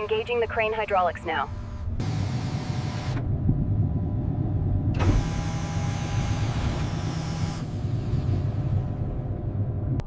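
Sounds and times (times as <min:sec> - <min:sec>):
heavy machinery drone: 0:00.0 - 0:10.0.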